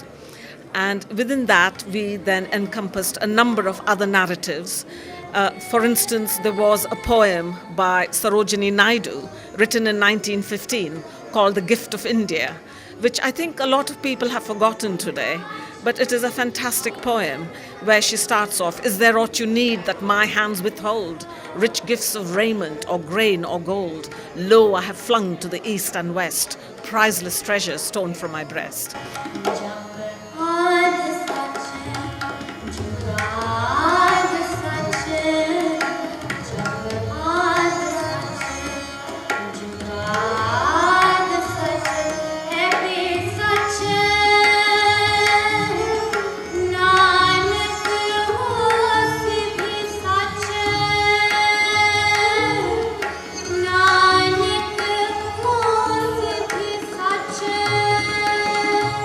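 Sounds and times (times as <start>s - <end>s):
tabla: 0.0s - 59.0s.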